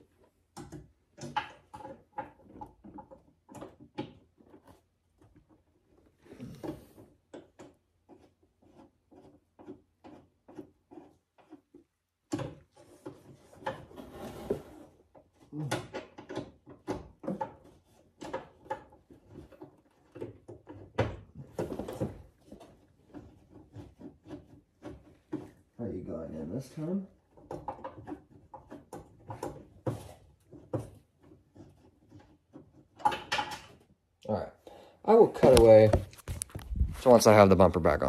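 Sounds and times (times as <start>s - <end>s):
irregular knocks and rubbing: 0.0s - 34.0s, 35.1s - 38.0s.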